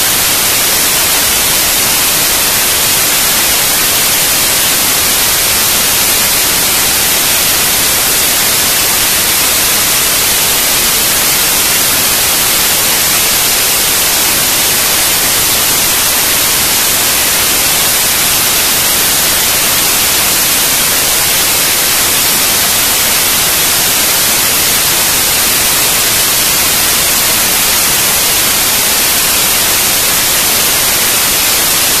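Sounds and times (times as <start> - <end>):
loud static hiss: 0.0 - 32.0.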